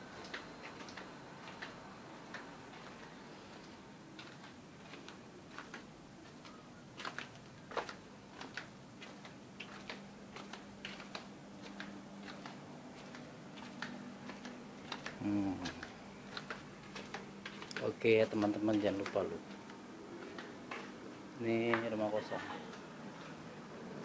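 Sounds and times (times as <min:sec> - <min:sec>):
faint steady hum: 0:00.0 - 0:24.0
footsteps on concrete: 0:00.2 - 0:23.4.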